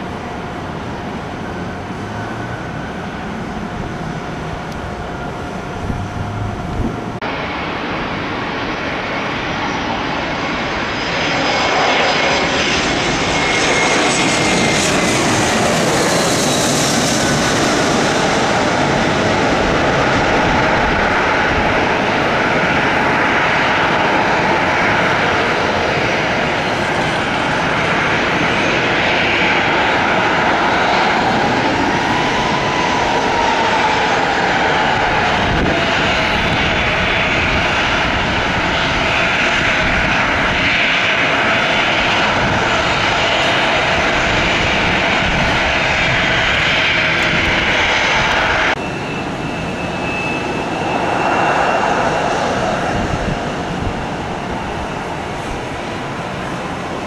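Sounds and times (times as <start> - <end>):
jet airliner roar: 0.0 - 57.0.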